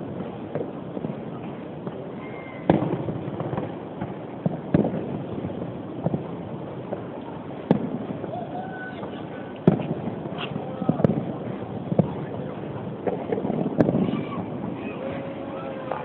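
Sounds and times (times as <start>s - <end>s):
distant fireworks bangs: 0.0s - 16.0s
fireworks crackling rumble: 0.0s - 16.0s.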